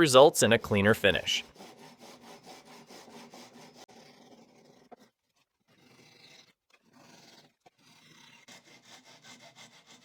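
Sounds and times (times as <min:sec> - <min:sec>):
handsaw strokes through wood: 0:00.0 - 0:10.0.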